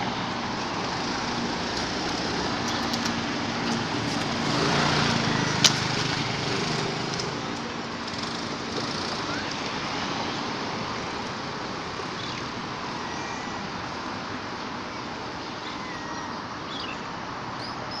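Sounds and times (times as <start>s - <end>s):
passing vehicle engine hum: 0.0s - 15.4s
traffic hiss: 0.0s - 18.0s.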